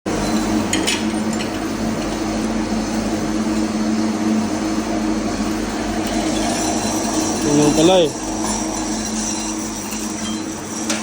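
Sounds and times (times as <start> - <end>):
engine room machinery hum: 0.1 - 11.0
steady tones: 1.6 - 11.0.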